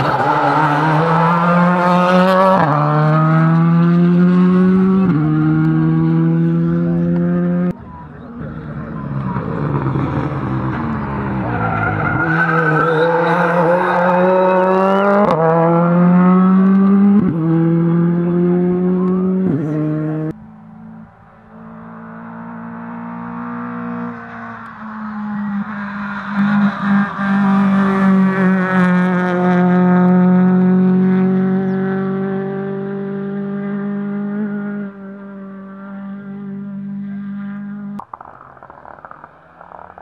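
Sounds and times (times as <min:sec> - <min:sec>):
rally car accelerating with upshifts: 0:00.0 - 0:07.8, 0:08.5 - 0:40.0.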